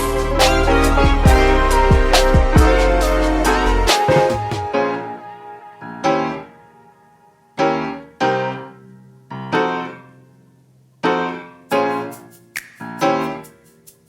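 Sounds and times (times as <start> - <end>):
electric piano chords: 0.0 - 10.4, 11.0 - 14.0.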